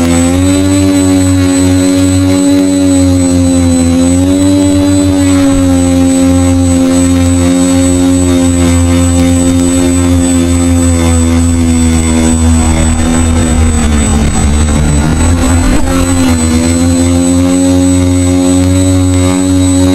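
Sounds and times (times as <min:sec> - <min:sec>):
drone propellers buzzing: 0:00.0 - 0:19.9
thin high whine: 0:00.2 - 0:19.9.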